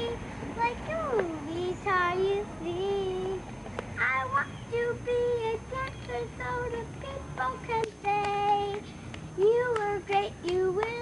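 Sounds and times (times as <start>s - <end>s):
girl singing: 0.0s - 11.0s.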